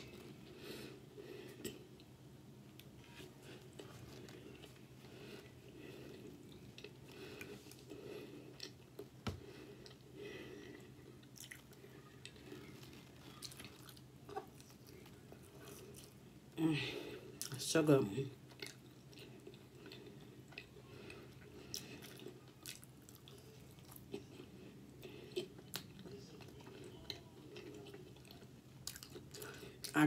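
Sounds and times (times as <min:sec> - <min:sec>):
person chewing food: 0:00.0 - 0:16.3, 0:18.4 - 0:30.0.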